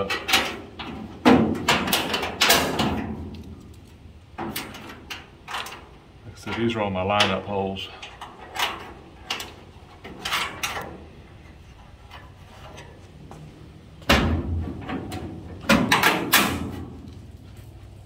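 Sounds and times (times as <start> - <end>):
sheet metal clunks and rattles: 0.0 - 13.0, 14.0 - 17.2.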